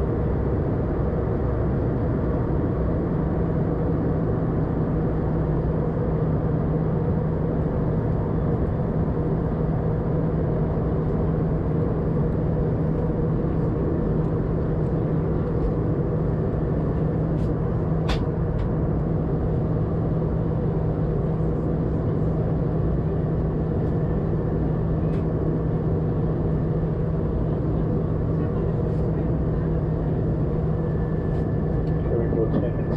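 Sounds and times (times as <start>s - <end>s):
aircraft engines and airflow drone: 0.0s - 32.9s
steady low hum: 0.0s - 32.9s.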